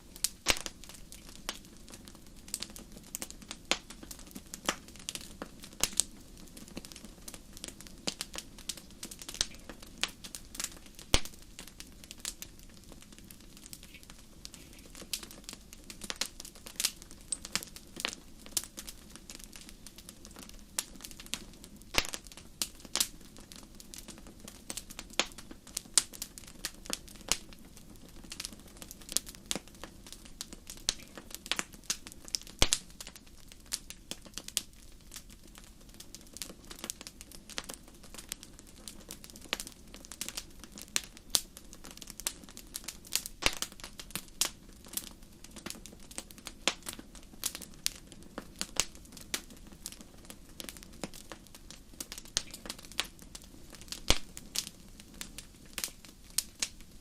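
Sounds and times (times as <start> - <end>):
soft steady hiss: 0.0 - 57.0
wood fire crackling and popping: 0.0 - 57.0.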